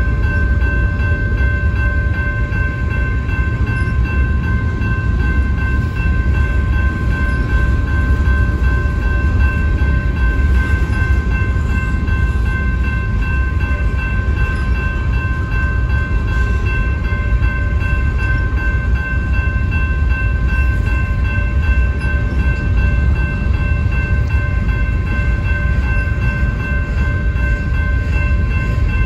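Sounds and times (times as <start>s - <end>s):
crossing warning bell ringing: 0.0s - 29.0s
freight train rumbling past: 0.0s - 29.0s.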